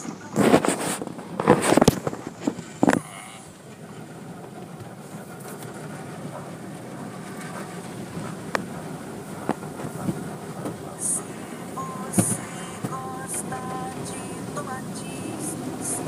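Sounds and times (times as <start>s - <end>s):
car wash spray and brushes: 0.0s - 16.0s.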